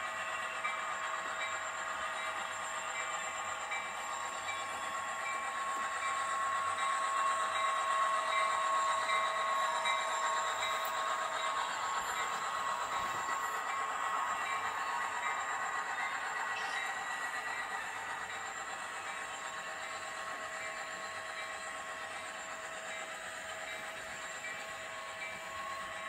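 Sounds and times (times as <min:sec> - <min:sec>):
model locomotive diesel engine sound: 0:00.0 - 0:26.0.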